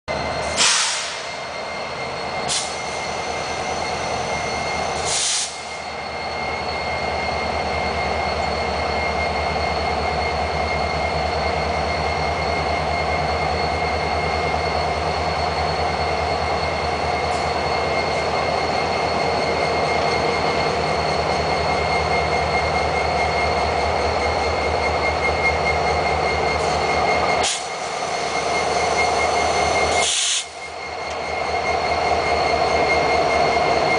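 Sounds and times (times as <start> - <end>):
diesel locomotives throttling up: 0.1 - 33.9
steady high whine: 0.1 - 33.9.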